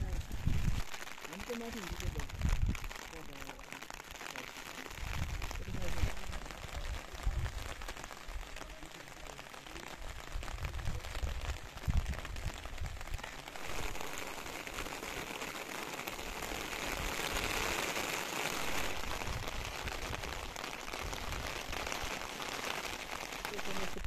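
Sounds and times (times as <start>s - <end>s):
rain pattering on umbrella: 0.0s - 24.0s
steady rain falling: 0.0s - 24.0s.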